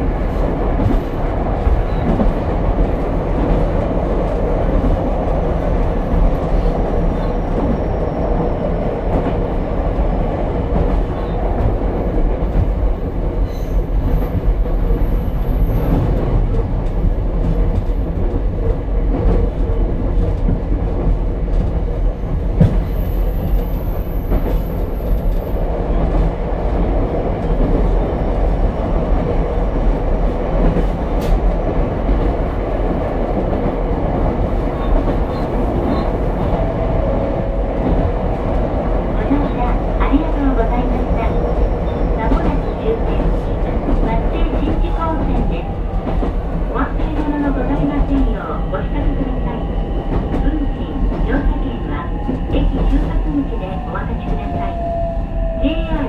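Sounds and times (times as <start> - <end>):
train wheels rumbling on rail: 0.0 - 56.0
rail clicks: 8.9 - 56.0.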